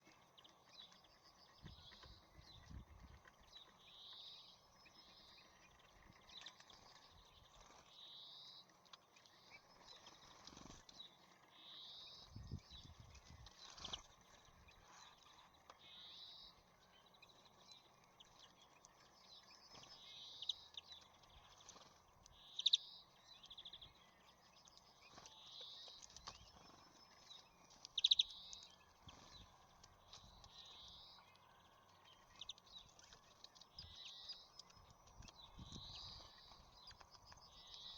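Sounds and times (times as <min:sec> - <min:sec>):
faint songbird song: 0:00.0 - 0:37.9.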